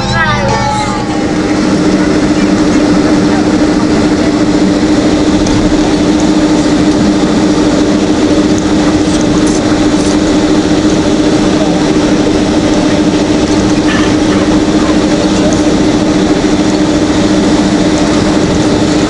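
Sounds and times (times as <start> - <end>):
jet engines humming in cabin: 0.0 - 19.0.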